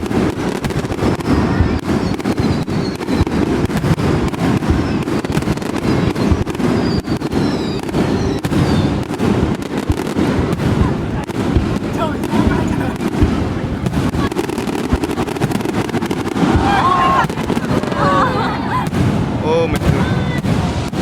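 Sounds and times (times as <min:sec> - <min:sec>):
falling firework whistles: 0:00.0 - 0:21.0
fireworks bangs and crackles: 0:00.0 - 0:21.0.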